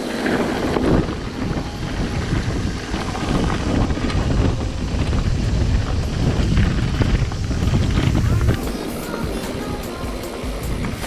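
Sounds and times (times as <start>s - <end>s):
bike rattling: 0.0s - 11.0s
wind on microphone: 0.0s - 11.0s.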